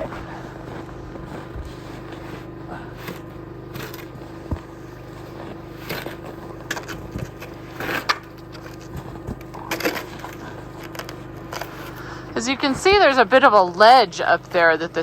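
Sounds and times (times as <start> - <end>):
snow rake scraping snow off roof: 0.0 - 14.9.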